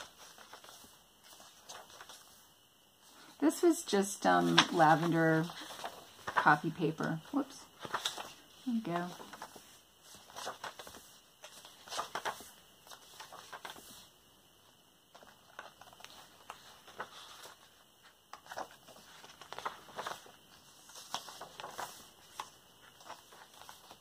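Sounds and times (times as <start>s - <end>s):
paper pages being turned: 0.0s - 14.1s, 15.1s - 24.0s.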